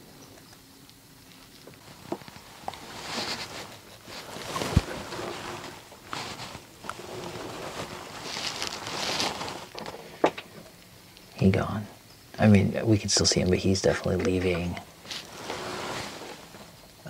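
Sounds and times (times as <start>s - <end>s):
rustling and handling noises: 1.2s - 11.3s, 13.1s - 17.0s.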